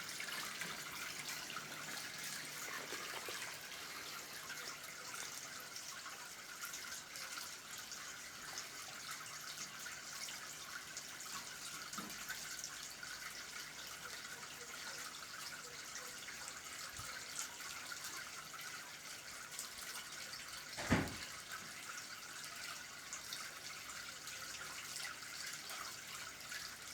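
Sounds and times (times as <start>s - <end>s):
small waterfall splashing: 0.0s - 26.9s.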